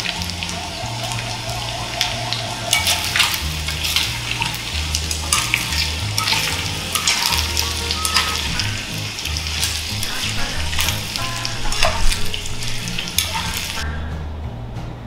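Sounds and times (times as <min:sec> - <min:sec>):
chopsticks turning food: 0:00.0 - 0:13.8
chicken sizzling in sauce: 0:00.0 - 0:13.9.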